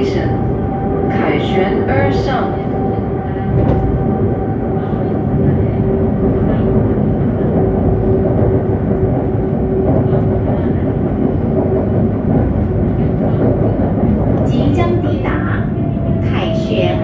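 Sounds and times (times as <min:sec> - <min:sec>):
tram running rumble: 0:00.0 - 0:17.0.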